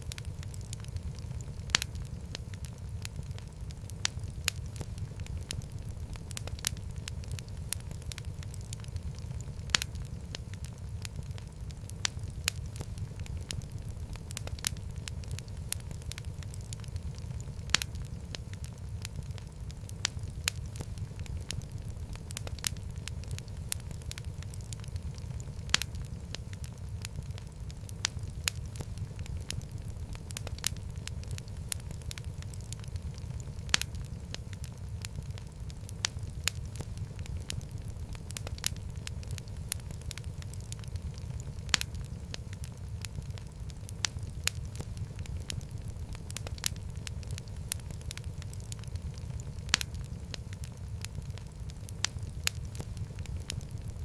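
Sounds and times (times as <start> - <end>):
fire pops and snaps: 0.0 - 54.0
low rumble of flames: 0.0 - 54.0
wood fire crackling: 0.0 - 54.0.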